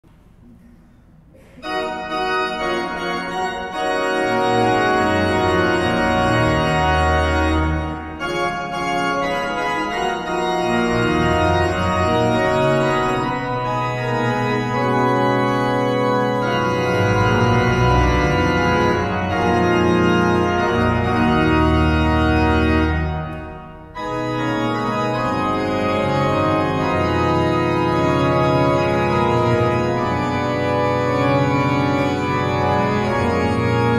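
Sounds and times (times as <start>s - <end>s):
pipe organ chords: 0.2s - 33.9s.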